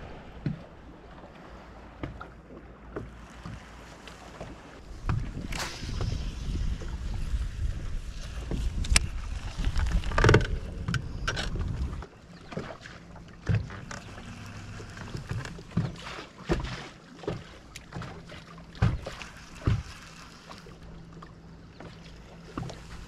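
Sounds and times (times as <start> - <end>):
water slapping against boat hull: 0.0 - 23.0.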